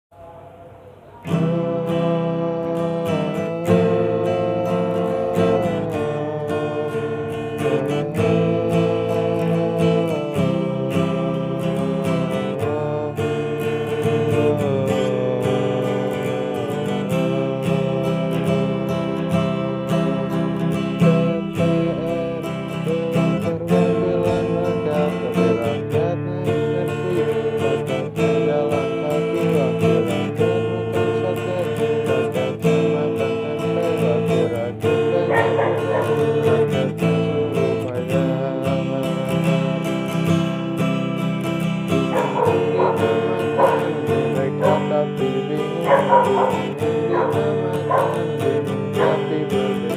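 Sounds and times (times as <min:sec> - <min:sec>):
acoustic guitar strummed: 0:00.1 - 0:49.9
man singing: 0:00.4 - 0:49.9.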